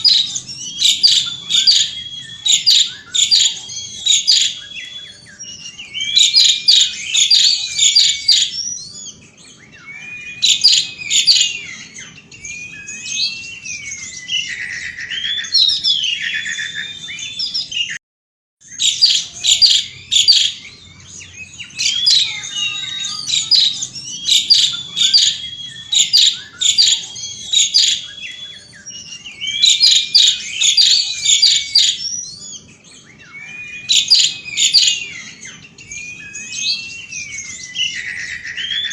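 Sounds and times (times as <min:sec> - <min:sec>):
starling singing: 0:00.0 - 0:18.0, 0:18.6 - 0:38.9.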